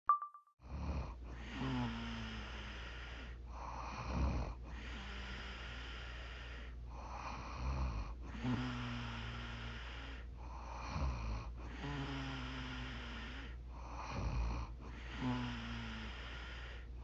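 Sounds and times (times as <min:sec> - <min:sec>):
woman snoring: 0:00.7 - 0:17.0.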